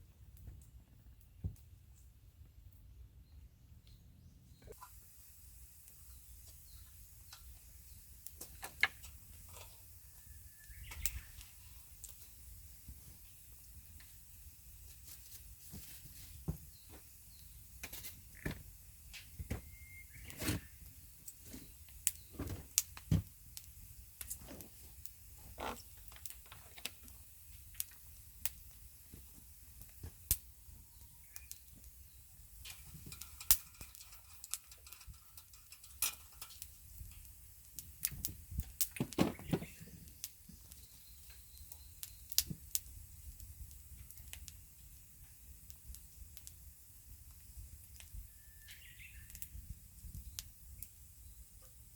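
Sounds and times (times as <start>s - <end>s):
quiet outdoor ambience: 0.0s - 51.9s.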